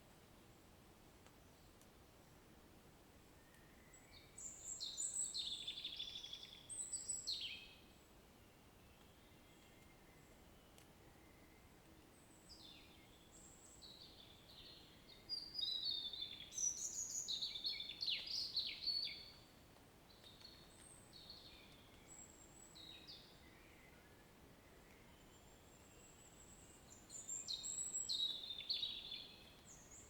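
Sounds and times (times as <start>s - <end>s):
faint background hiss: 0.0s - 30.0s
songbirds singing: 3.4s - 30.0s.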